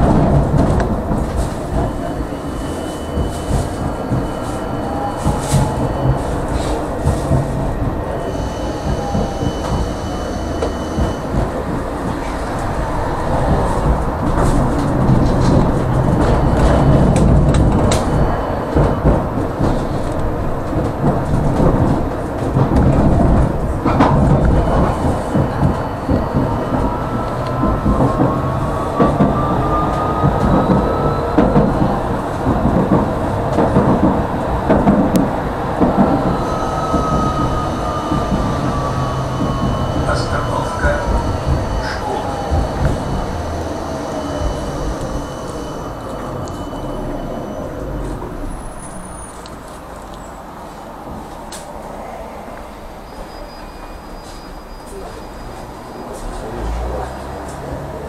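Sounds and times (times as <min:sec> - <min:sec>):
tram wheels rumbling on track: 0:00.0 - 0:58.0.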